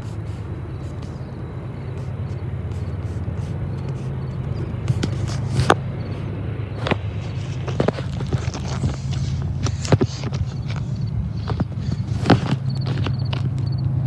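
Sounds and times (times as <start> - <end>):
diesel locomotive rumble: 0.0 - 14.0.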